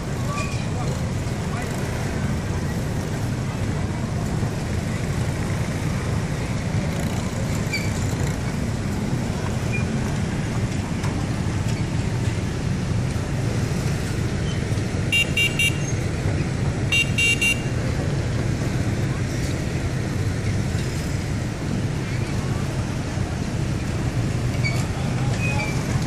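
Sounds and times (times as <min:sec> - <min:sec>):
ferry engine low rumble: 0:00.0 - 0:26.0.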